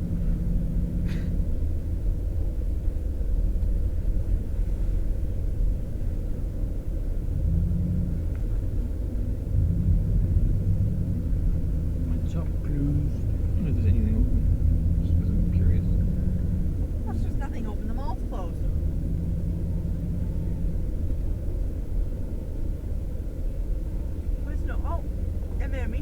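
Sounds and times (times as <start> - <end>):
car engine rumble inside cabin: 0.0 - 26.0
road noise: 0.0 - 26.0.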